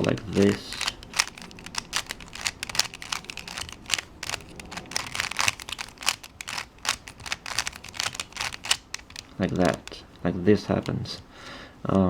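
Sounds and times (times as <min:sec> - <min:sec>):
puzzle cube clicking: 0:00.0 - 0:12.0.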